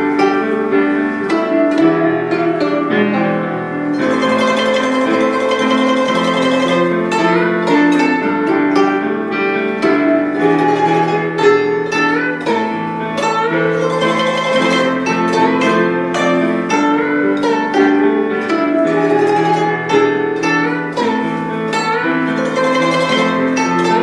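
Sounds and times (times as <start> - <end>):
plucked zither melody: 0.0 - 24.0.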